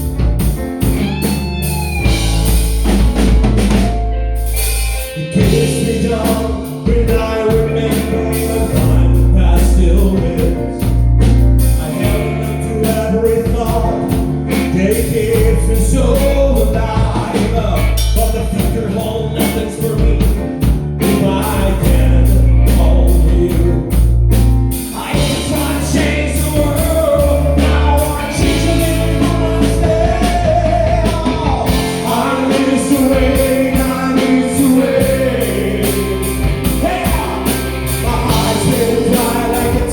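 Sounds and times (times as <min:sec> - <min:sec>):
rock band playing: 0:00.0 - 0:39.9
person singing lead vocal: 0:05.0 - 0:39.9.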